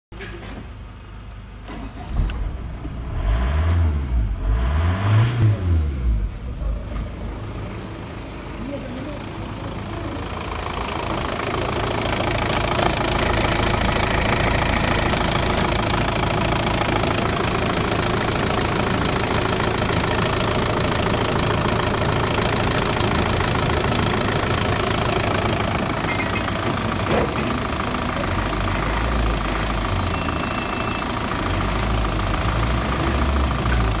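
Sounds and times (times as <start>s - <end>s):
diesel engine idling: 5.5s - 34.0s.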